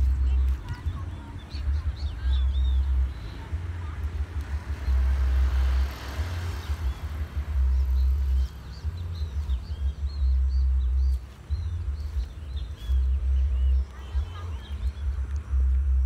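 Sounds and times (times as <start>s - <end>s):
bird chirping: 0.0s - 16.0s
wind buffeting microphone: 0.0s - 16.0s.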